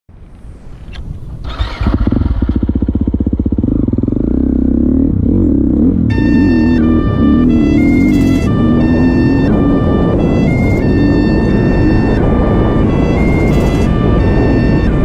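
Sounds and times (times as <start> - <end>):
dirt bike engine accelerating: 1.4 - 15.0.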